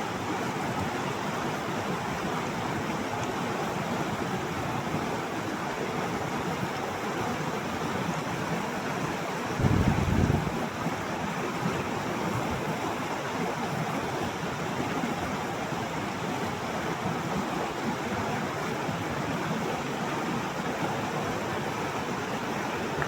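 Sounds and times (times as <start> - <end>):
mountain river rushing: 0.0 - 23.0.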